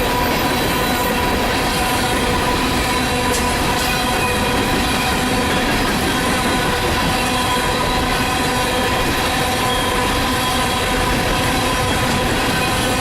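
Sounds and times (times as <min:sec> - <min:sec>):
high wheel squealing: 0:00.0 - 0:13.0
train wheels rushing on rail: 0:00.0 - 0:13.0.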